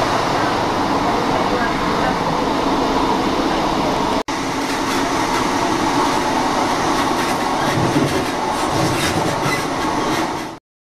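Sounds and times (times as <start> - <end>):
train rumbling on rails: 0.0 - 10.6.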